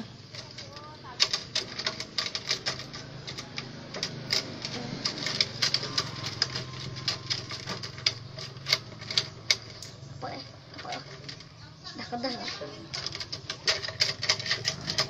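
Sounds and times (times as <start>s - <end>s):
stick feet clattering on wood: 0.0s - 15.0s.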